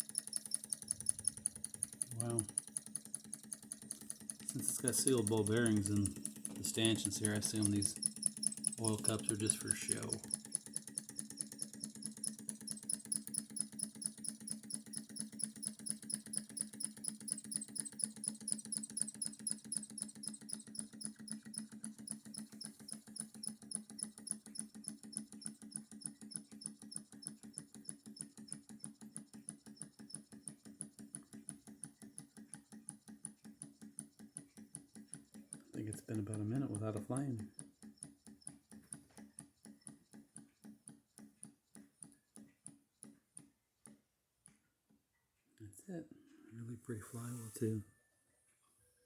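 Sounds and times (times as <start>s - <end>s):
fast even mechanical clicking: 0.0s - 43.2s.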